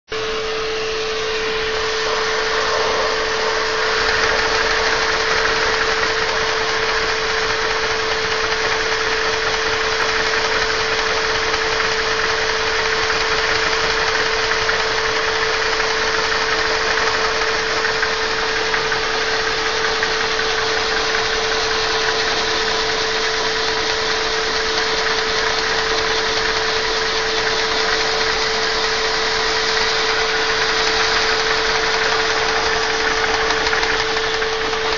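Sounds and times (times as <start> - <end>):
vacuum cleaner whine: 0.1 - 34.9.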